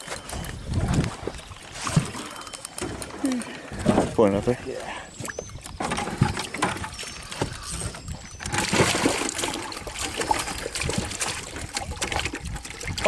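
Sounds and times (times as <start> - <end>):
river water splashing and trickling: 0.0 - 13.0.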